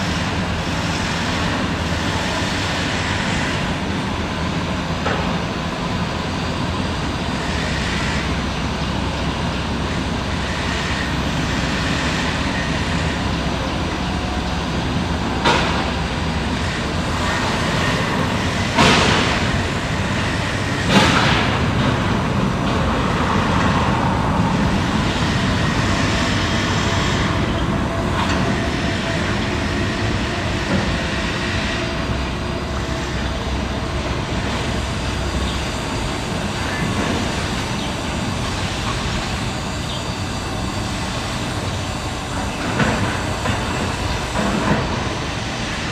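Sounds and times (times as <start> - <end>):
heavy machinery running: 0.0 - 45.9.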